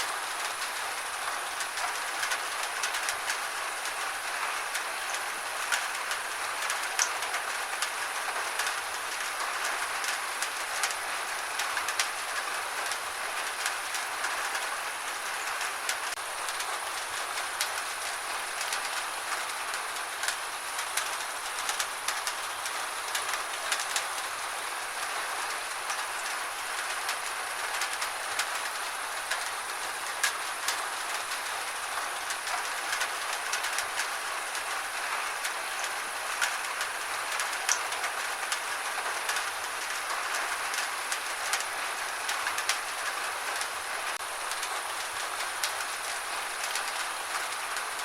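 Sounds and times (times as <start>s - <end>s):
gentle rain on a hard surface: 0.0s - 48.0s.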